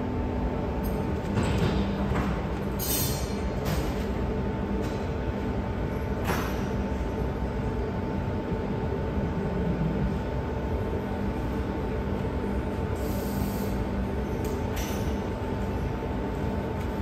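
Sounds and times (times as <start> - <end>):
workshop machinery hum: 0.0 - 17.0.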